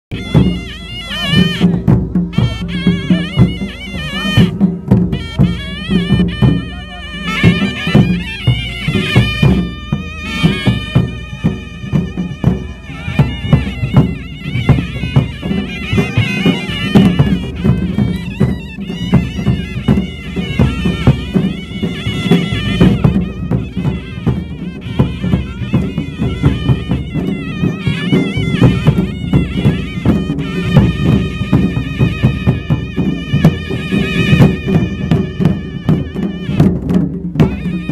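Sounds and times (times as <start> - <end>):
nasal reed pipe melody: 0.1 - 37.9
rapid drumming: 0.1 - 37.9.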